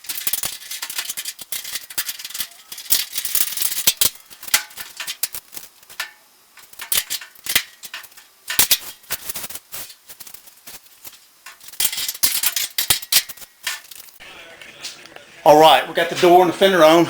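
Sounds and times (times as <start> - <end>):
tools and sheet metal clattering: 0.0 - 14.2.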